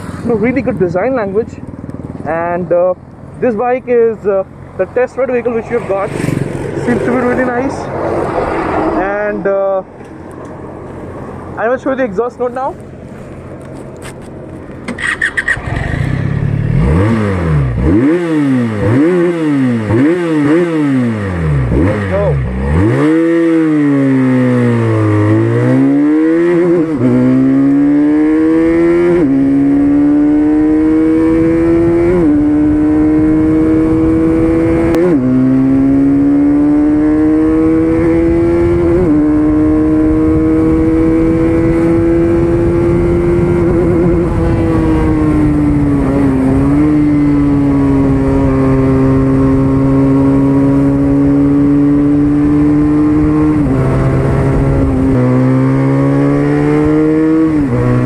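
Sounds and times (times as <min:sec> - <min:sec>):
motorcycle engine revving: 0:00.0 - 0:12.4, 0:13.6 - 0:58.0.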